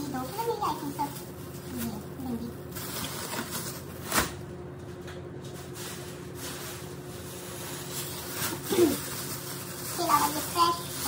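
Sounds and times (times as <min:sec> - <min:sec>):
plastic bags rustling: 0:00.0 - 0:11.0
steady low hum: 0:00.0 - 0:11.0.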